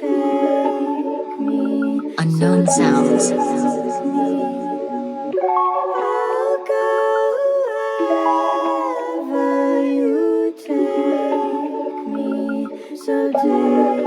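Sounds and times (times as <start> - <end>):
voices singing harmonies: 0.0 - 14.0.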